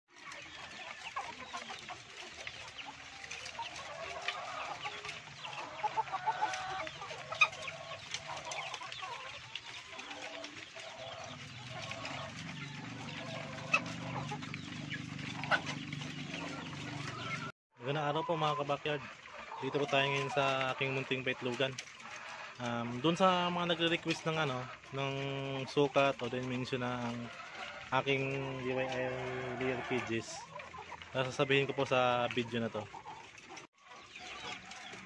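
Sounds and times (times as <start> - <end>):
hens clucking: 0.1 - 35.0.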